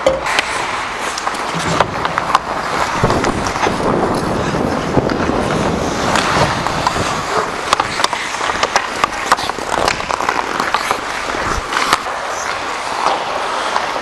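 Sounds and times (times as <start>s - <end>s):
hockey sticks and puck clacking: 0.0s - 14.0s
hockey skates scraping ice: 0.2s - 14.0s.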